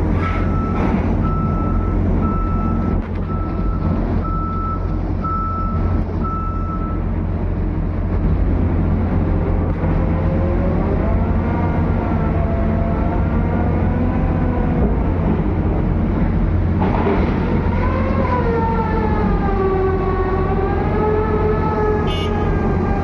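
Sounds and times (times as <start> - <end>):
diesel engine rumbling under load: 0.0 - 23.0.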